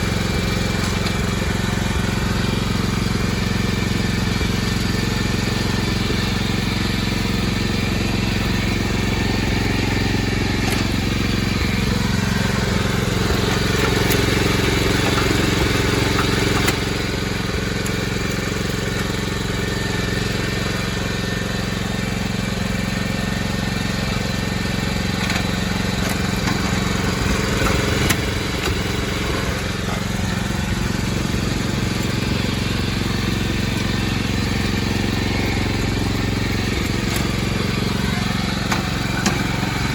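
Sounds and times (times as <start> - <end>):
tiller petrol engine running: 0.0 - 39.9.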